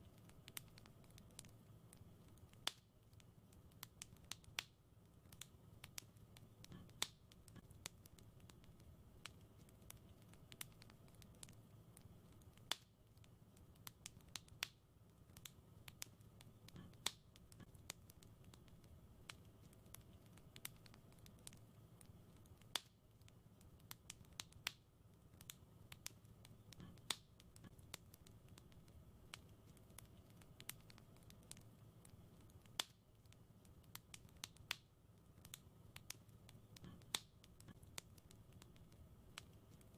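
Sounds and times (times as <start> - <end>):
faint low rumble: 0.0 - 39.9
wood fire crackling: 0.0 - 39.9.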